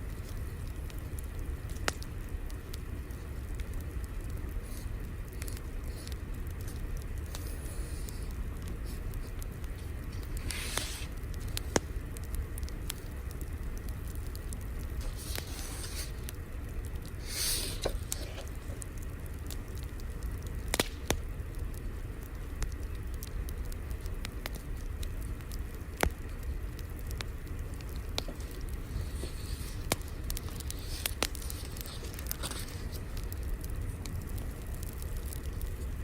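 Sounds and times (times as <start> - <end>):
low rumble and hiss: 0.0 - 36.0
wood fire crackling and popping: 0.0 - 36.0.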